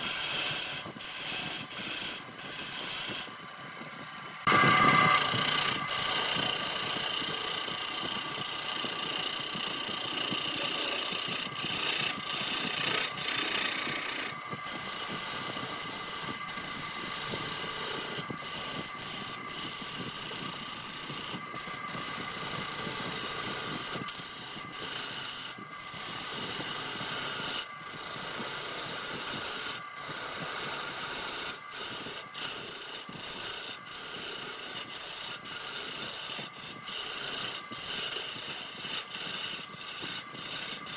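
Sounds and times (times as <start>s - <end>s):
wood lathe cutting: 0.0s - 3.4s, 4.5s - 40.9s.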